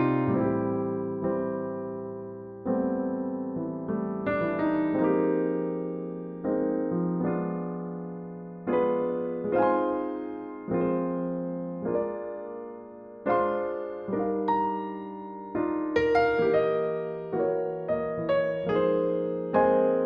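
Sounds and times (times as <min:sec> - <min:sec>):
soft jazz on electric piano: 0:00.0 - 0:20.0.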